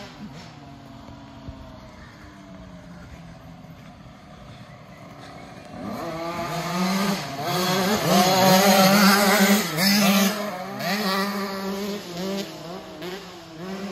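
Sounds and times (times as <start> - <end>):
dirt bike engines revving: 0.0 - 13.9.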